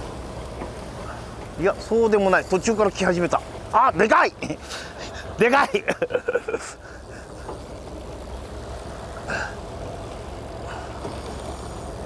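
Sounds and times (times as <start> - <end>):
boat engine idling: 0.0 - 12.0
wind: 0.0 - 12.0.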